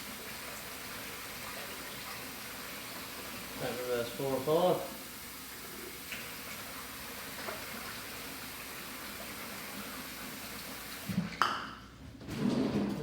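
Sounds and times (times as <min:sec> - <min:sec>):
water running into a container: 0:00.0 - 0:11.4.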